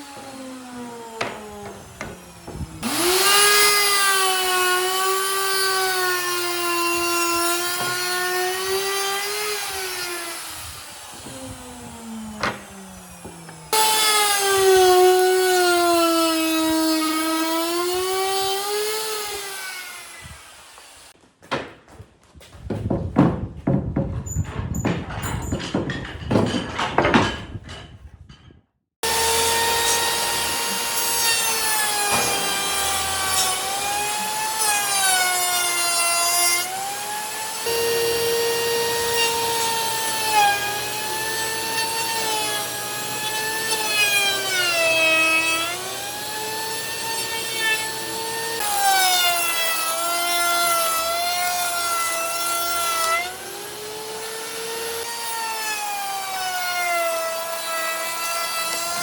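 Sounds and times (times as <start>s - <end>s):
power tool whining on wood: 0.0s - 21.2s, 29.0s - 59.0s.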